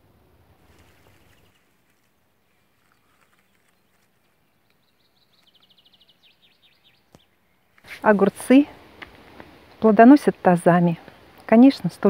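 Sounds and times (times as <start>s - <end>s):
birds chirping: 0.5s - 12.0s.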